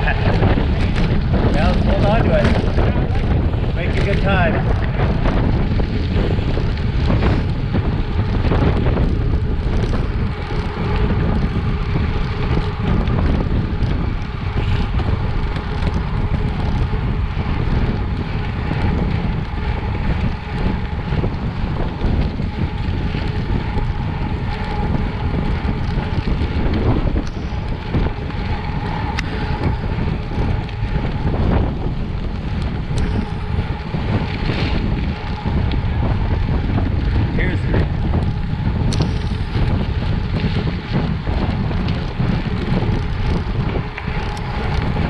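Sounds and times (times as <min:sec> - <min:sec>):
bike tyres rolling on gravel: 0:00.0 - 0:45.0
wind buffeting microphone: 0:00.0 - 0:45.0.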